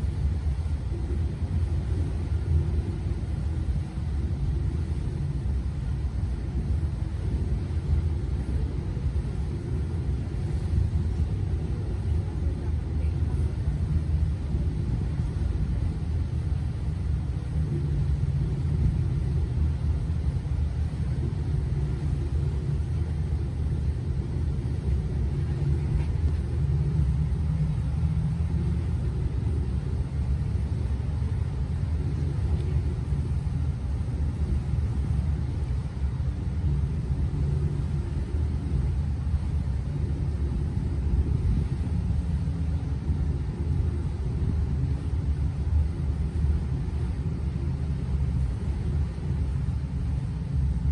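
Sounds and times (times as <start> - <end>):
boat engine low rumble: 0.0 - 50.9.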